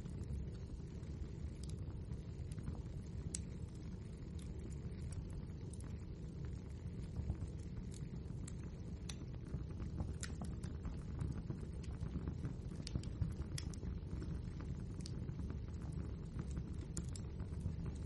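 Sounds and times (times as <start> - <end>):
logs crackling and popping: 0.0 - 18.0
low rumble of flame: 0.0 - 18.0.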